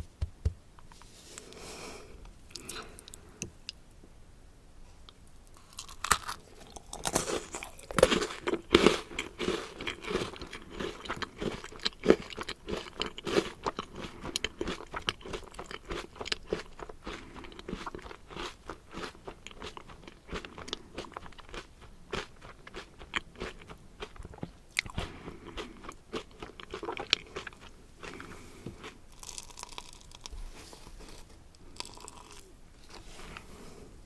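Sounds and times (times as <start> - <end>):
crunchy food being chewed: 5.1 - 33.6.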